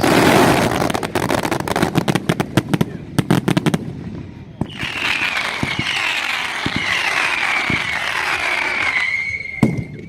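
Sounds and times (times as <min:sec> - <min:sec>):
firework bangs: 0:00.0 - 0:10.0
whistling fireworks: 0:00.0 - 0:10.0.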